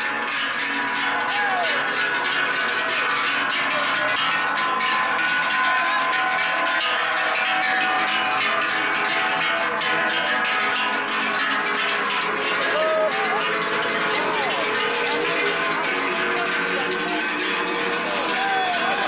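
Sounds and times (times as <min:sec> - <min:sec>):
cowbells clanging: 0:00.0 - 0:19.0.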